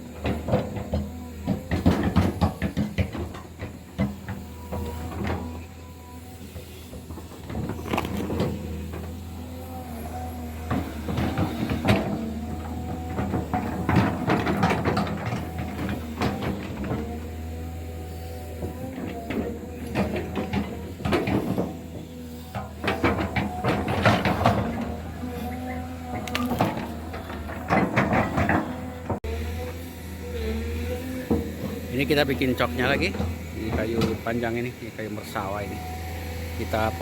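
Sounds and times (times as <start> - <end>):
metallic clanks and knocks: 0.0 - 29.9, 30.8 - 36.1
heavy machine engine hum: 0.0 - 37.0.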